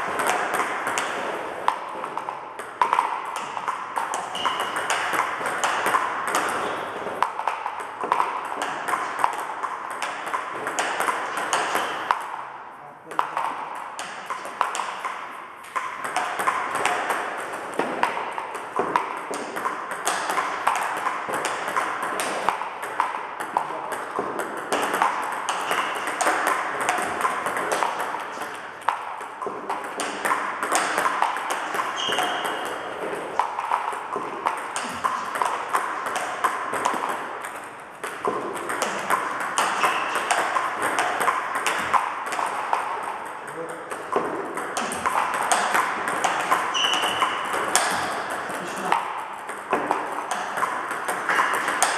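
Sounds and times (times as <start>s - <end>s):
table tennis balls clicking: 0.0s - 12.5s, 13.1s - 51.9s.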